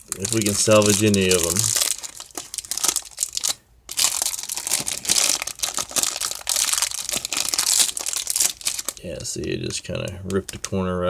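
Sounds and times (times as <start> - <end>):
card pack wrapper crinkling and tearing: 0.0 - 10.7.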